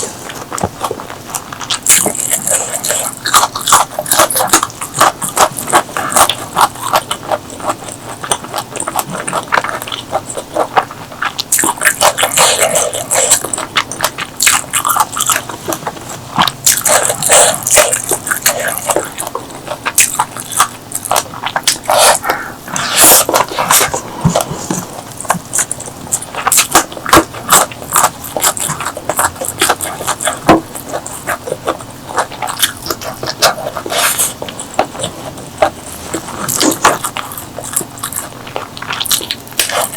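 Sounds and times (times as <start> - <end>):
crunching and chewing: 0.0 - 39.9
wet mouth sounds: 0.0 - 39.9.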